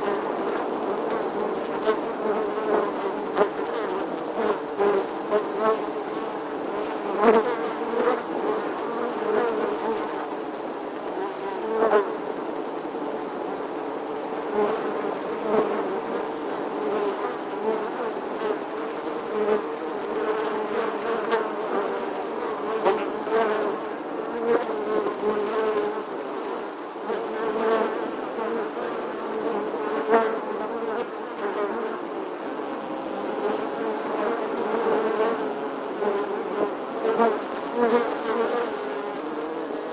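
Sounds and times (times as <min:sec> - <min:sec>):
bee buzzing: 0:00.0 - 0:12.2, 0:14.4 - 0:39.9.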